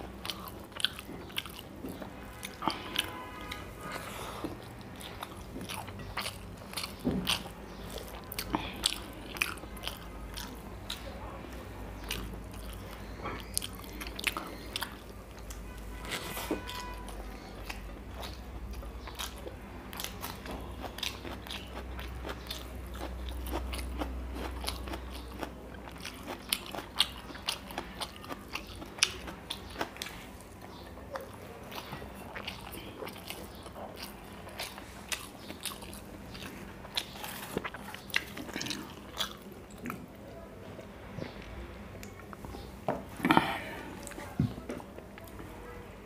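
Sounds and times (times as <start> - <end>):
person chewing food: 0.0 - 11.3, 12.0 - 45.4.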